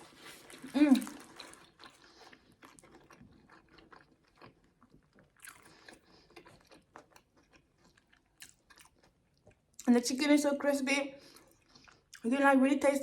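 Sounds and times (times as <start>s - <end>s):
person chewing crunchy food: 0.0s - 9.7s, 11.4s - 12.3s.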